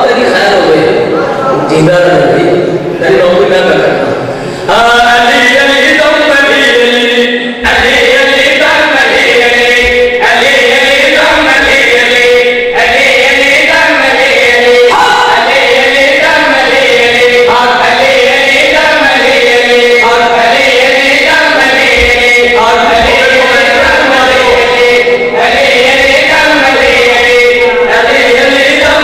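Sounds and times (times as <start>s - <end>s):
man chanting over loudspeaker: 0.0s - 29.0s.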